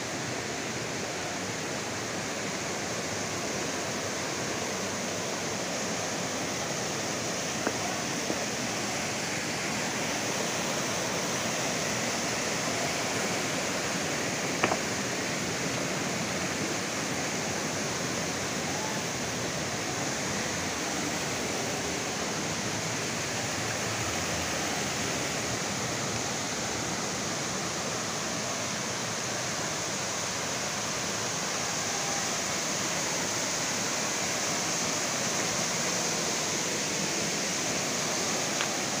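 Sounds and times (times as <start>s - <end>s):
water rushing in stream and waterfall: 0.0s - 39.0s.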